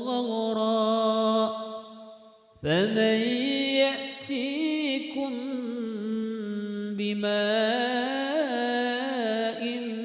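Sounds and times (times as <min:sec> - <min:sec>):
person chanting recitation: 0:00.0 - 0:10.0.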